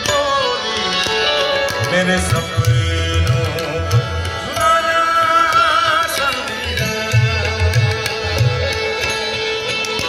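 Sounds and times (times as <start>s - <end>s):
tabla and deep drum beats: 0.0s - 10.0s.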